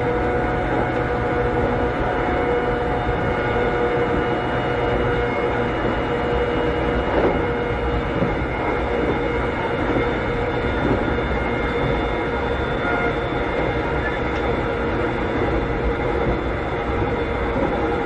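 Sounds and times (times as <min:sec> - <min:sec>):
train motor and gear whine: 0:00.0 - 0:18.0
wheel and track rumble: 0:00.0 - 0:18.0.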